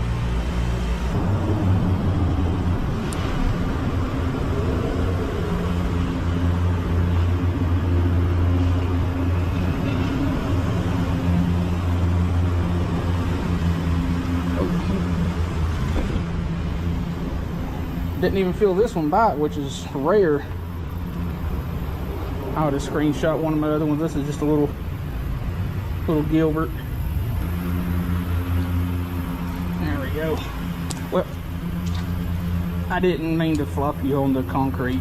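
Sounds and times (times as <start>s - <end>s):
low engine hum: 0.0s - 35.0s
road noise: 0.0s - 35.0s.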